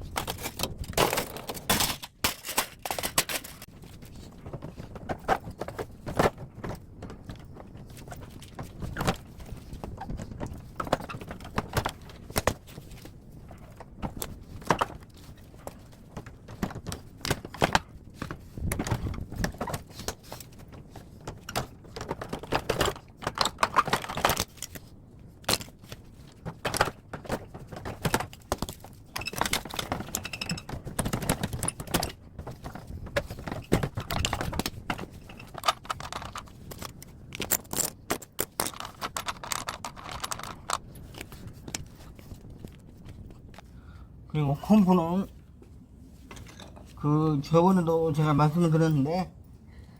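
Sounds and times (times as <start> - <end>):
tools and metal parts handled: 0.0 - 43.7, 46.1 - 47.1.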